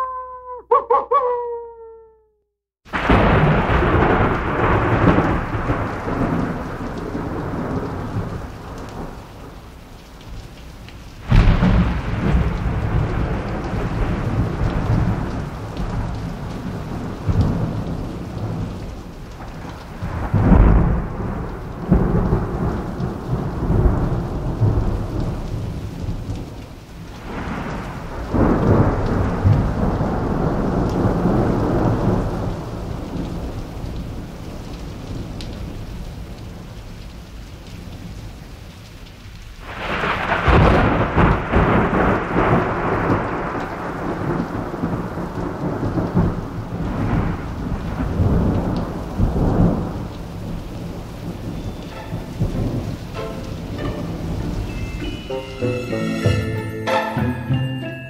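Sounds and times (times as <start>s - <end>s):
steady rain: 2.8s - 57.9s
rolling thunder: 2.9s - 9.6s, 11.2s - 26.6s, 27.2s - 36.6s, 39.6s - 55.4s.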